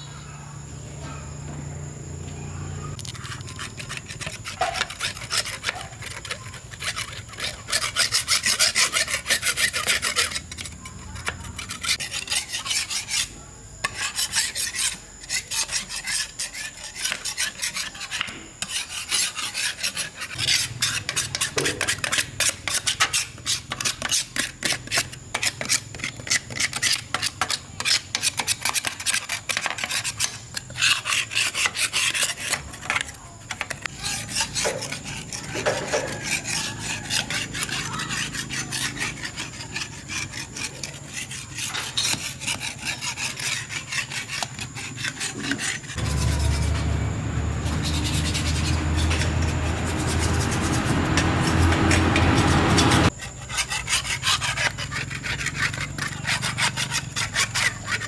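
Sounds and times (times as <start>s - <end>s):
hand abrasion on metal: 2.9s - 58.0s.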